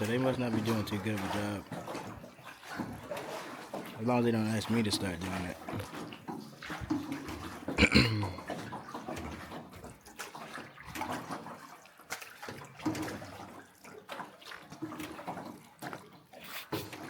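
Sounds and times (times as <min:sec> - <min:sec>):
oars splashing in water: 0:00.0 - 0:17.0.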